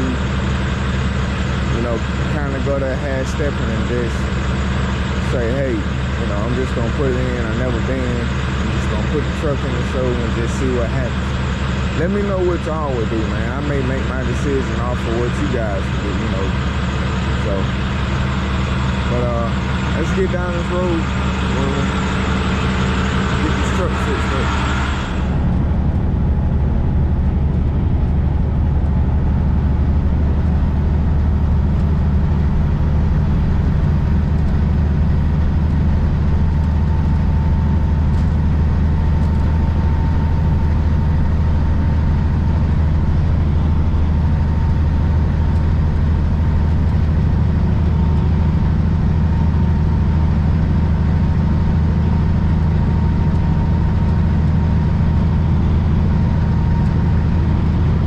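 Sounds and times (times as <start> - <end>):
road noise: 0.0 - 58.0
truck diesel engine droning: 0.0 - 58.0.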